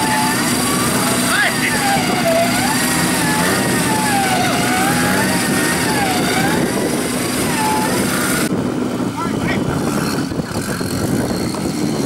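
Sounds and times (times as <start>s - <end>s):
engine revving: 0.0s - 8.8s, 9.5s - 12.0s.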